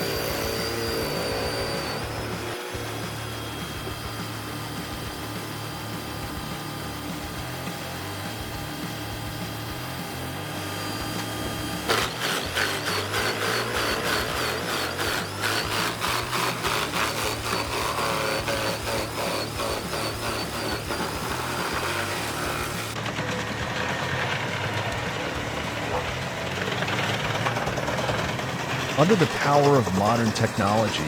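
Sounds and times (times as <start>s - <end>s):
wood chipper humming: 0.0s - 31.0s
wood chipper knocking: 0.0s - 31.0s.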